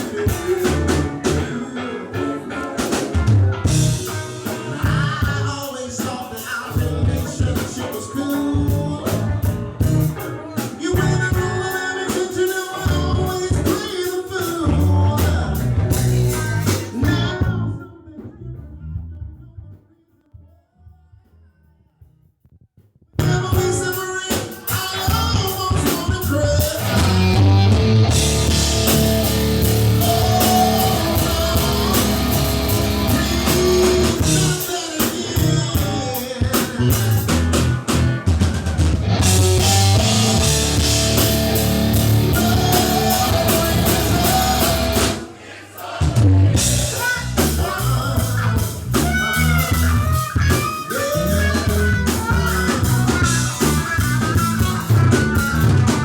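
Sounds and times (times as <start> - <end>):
rock band playing: 0.0 - 17.8, 23.2 - 56.0
lead vocals: 0.0 - 18.6, 23.2 - 56.0.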